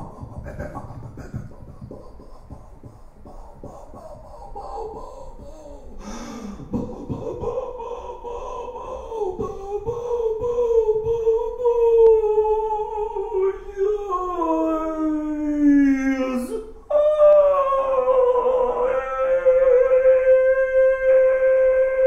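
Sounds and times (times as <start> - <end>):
man vocalising wordlessly: 0.0 - 22.0.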